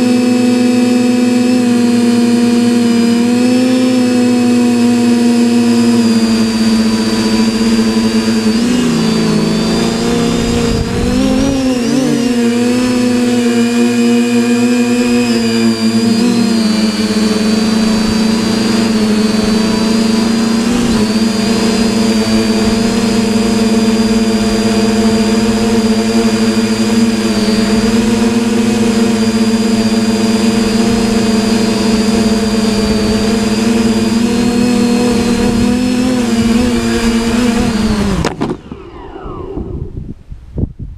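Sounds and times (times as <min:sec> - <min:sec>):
drone motors humming and whining: 0:00.0 - 0:40.6.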